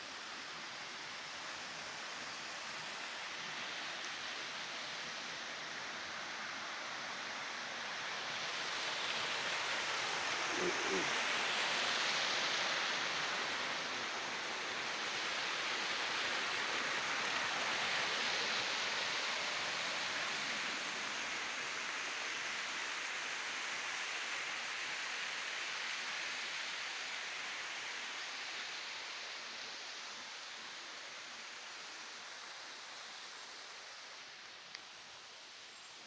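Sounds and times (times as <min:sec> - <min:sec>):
water rushing and splashing: 0:00.0 - 0:35.7.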